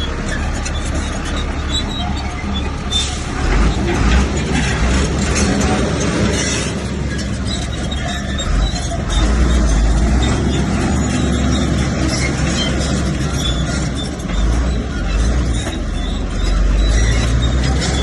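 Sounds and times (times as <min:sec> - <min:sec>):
bulldozer diesel rumble: 0:00.0 - 0:18.0
steel tracks squeaking and clattering: 0:00.0 - 0:18.0.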